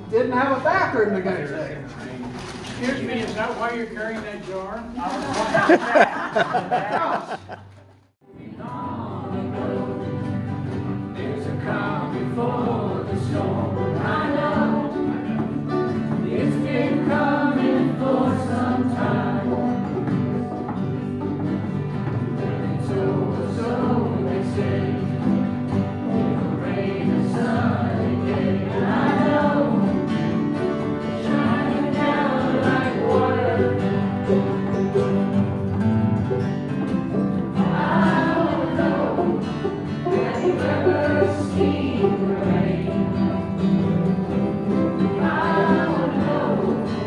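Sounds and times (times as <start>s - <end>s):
strummed acoustic guitars: 0.0s - 47.0s
group of people singing: 8.3s - 35.6s, 36.2s - 47.0s.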